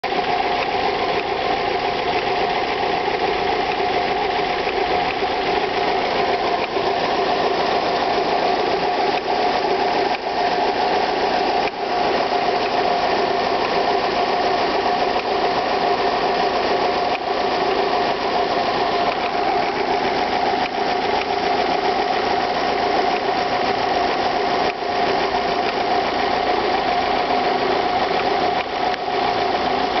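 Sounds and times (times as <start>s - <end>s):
car engine idling: 0.0s - 30.0s
fast engine ticking: 0.0s - 30.0s.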